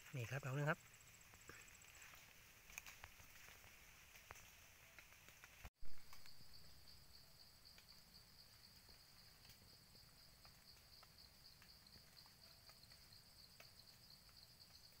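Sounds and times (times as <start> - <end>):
faint ticks: 1.3 - 6.4, 7.7 - 15.0.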